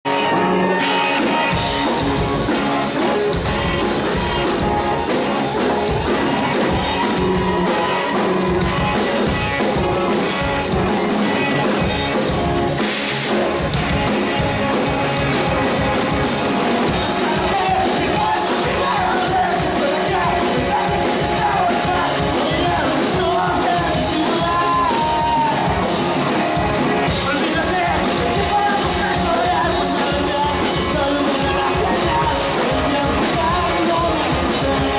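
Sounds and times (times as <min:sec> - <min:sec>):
rock band playing live: 0:00.0 - 0:34.9.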